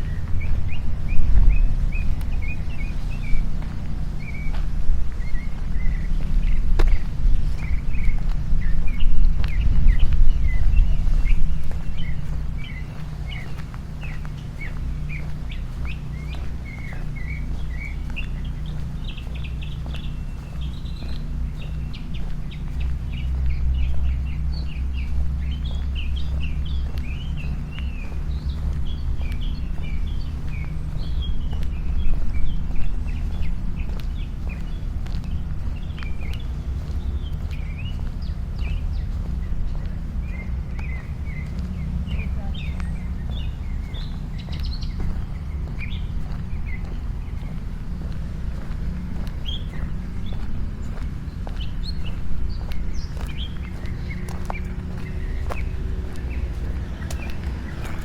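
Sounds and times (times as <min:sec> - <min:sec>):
low rumble: 0:00.0 - 0:58.0
small birds chirping: 0:00.0 - 0:58.0.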